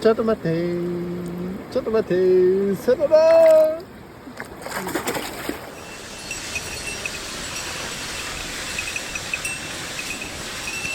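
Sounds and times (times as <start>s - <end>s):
stream water rushing: 0.0s - 10.9s.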